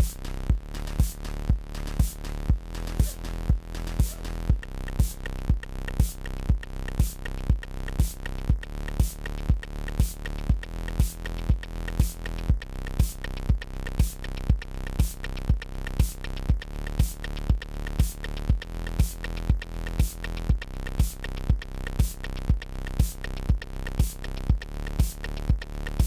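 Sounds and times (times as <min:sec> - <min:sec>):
drum-machine beat: 0:00.0 - 0:26.0
synthesizer chords: 0:00.0 - 0:26.0.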